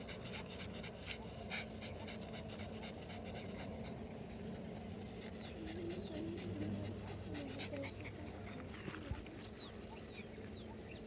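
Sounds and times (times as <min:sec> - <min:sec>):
dog panting: 0:00.0 - 0:10.2.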